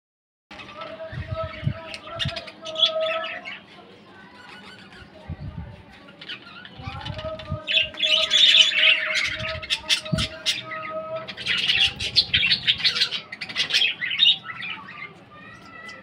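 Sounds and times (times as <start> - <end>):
parrots chattering and squawking: 0.5 - 16.0.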